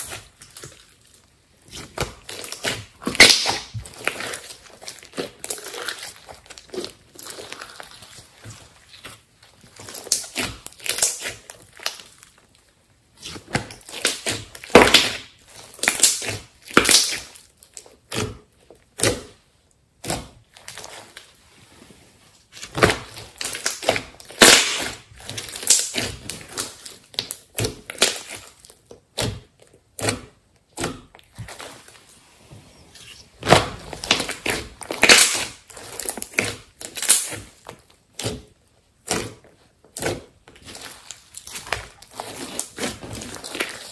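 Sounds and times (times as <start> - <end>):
slime squelching and crackling: 0.0 - 43.9.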